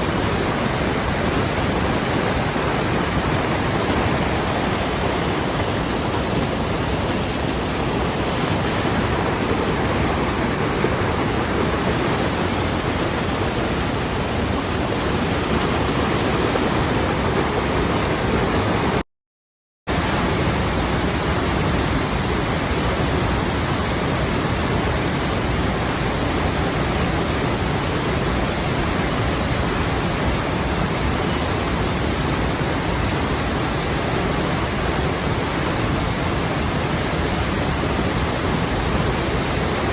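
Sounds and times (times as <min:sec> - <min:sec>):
flowing water: 0:00.0 - 0:19.0, 0:19.9 - 0:39.9.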